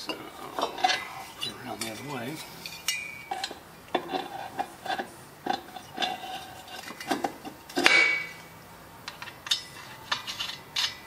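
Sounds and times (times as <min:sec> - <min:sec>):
metal clunks and scrapes: 0:00.0 - 0:08.4, 0:09.1 - 0:11.0.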